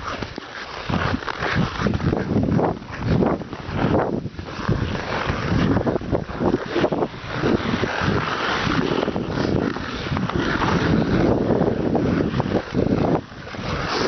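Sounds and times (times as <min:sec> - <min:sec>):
skate blades scraping ice: 0:00.0 - 0:14.0
wind buffeting microphone: 0:00.0 - 0:14.0.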